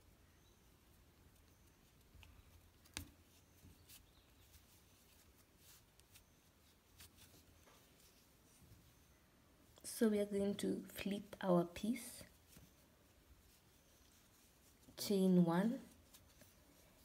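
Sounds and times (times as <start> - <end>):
faint yarn rustling: 0.0 - 17.0.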